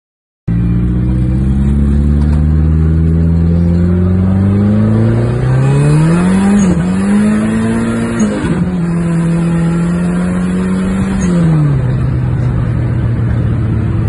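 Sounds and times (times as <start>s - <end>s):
car engine accelerating: 0.5s - 14.0s.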